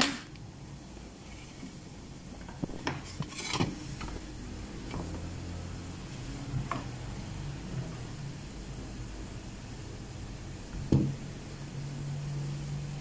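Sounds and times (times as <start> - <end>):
water boiling in a pot: 0.0 - 13.0.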